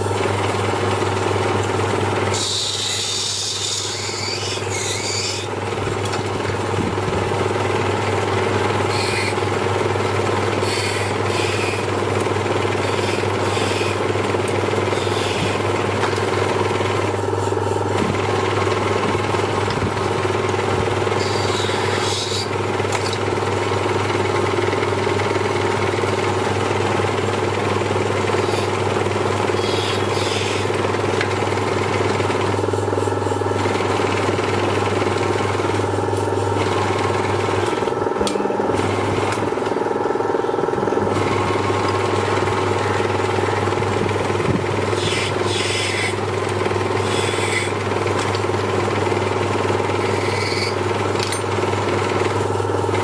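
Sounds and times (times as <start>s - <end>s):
lathe motor humming: 0.0s - 53.0s.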